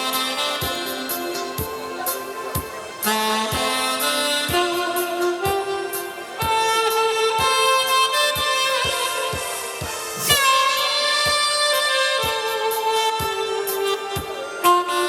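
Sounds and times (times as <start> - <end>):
steady drum beat: 0.0 - 15.0
wind instrument melody: 0.0 - 15.0.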